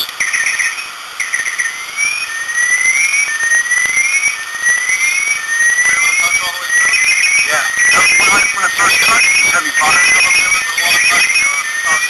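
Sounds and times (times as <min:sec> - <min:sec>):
shrill electronic alarm sweeping upward: 0:00.0 - 0:12.0.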